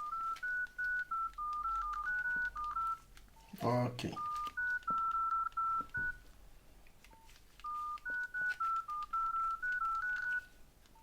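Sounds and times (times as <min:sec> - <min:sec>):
two-tone keypad dialing beeps: 0:00.0 - 0:06.2, 0:07.1 - 0:11.0.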